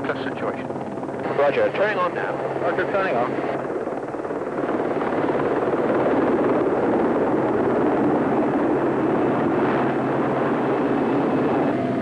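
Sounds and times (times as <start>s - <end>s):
helicopter rotor and turbine noise: 0.0s - 12.0s.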